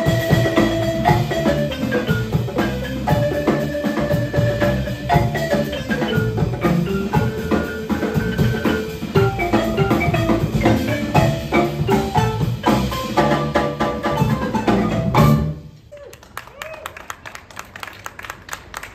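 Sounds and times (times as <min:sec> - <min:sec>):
hand drum: 0:00.0 - 0:15.6
xylophone: 0:00.0 - 0:15.6
drum kit: 0:00.0 - 0:15.9.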